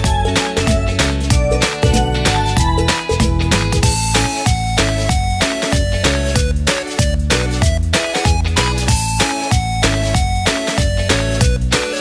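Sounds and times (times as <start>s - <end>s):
deep bass: 0.0s - 11.8s.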